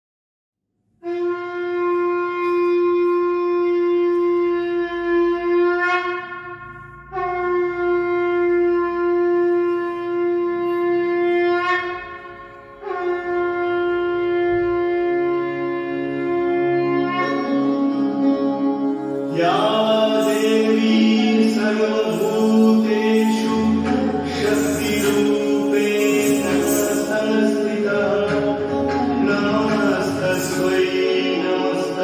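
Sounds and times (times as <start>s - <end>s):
conch shell blown: 1.0s - 32.0s.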